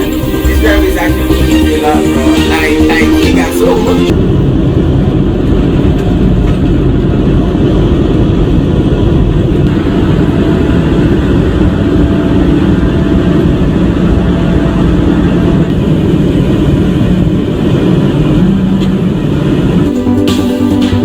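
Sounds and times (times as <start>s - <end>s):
road noise: 0.0s - 21.0s
truck engine rumble: 0.0s - 21.0s.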